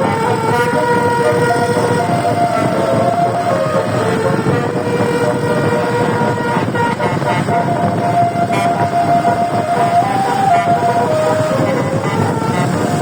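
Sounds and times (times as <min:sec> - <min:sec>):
bus air horn playing a tune: 0:00.0 - 0:13.0
steady rushing noise: 0:00.0 - 0:13.0.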